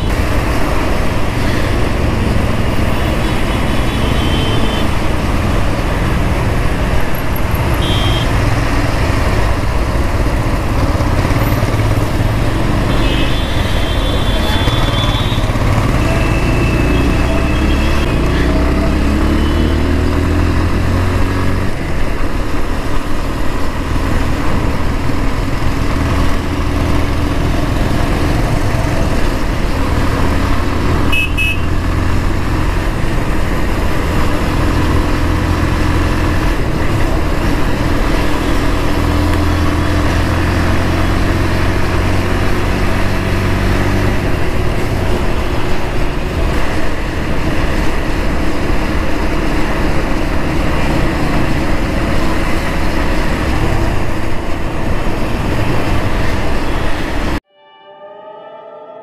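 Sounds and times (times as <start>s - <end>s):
motorcycle engine accelerating: 0.0s - 57.4s
wind and road noise: 0.0s - 57.4s.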